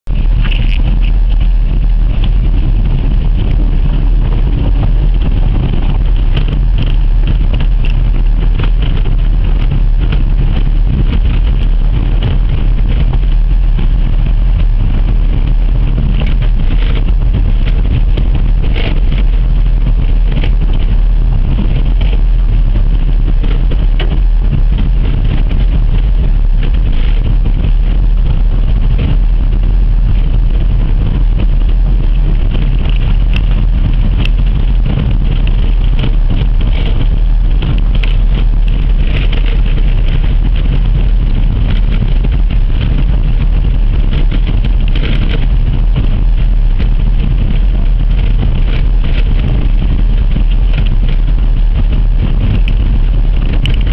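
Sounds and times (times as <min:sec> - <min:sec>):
car rumbling on gravel: 0:00.0 - 0:53.9.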